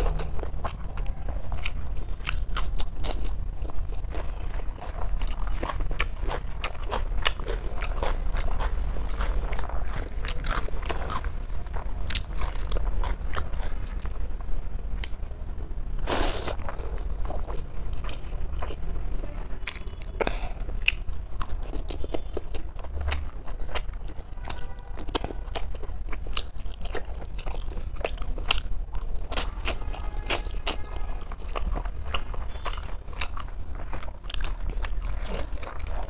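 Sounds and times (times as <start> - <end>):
chewing with mouth clicks: 0.0 - 15.3, 16.0 - 36.0.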